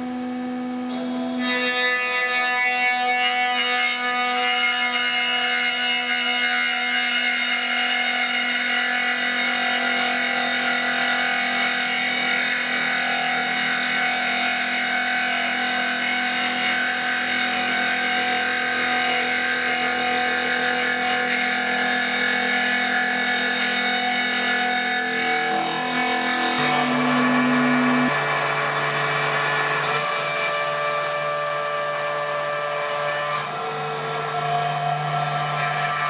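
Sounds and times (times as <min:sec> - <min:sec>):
router spindle whining: 0:00.0 - 0:06.2, 0:06.9 - 0:36.0.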